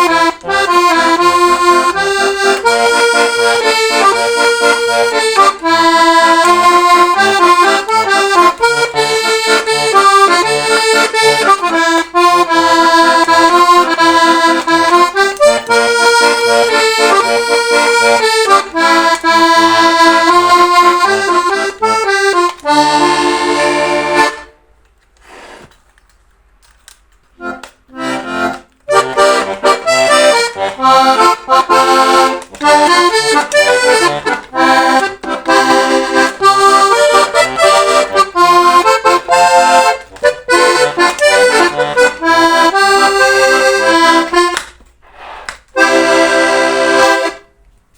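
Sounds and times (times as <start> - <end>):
button accordion playing a tune: 0.0 - 24.6, 27.4 - 47.6.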